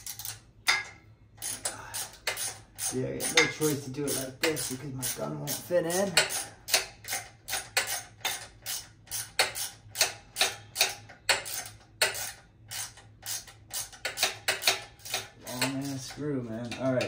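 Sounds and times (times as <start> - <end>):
hand ratchet clicking: 0.0 - 0.4, 1.4 - 17.0.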